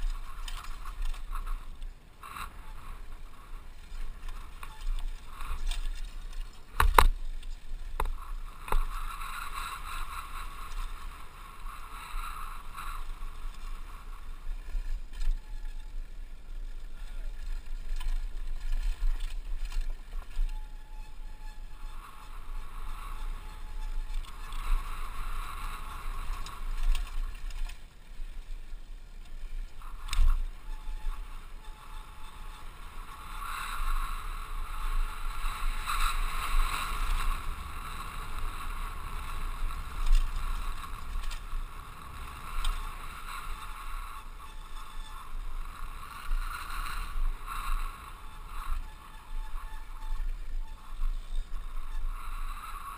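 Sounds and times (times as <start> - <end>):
bike tyres crunching over dirt: 0.0 - 52.9
wind buffeting camera: 0.0 - 52.9.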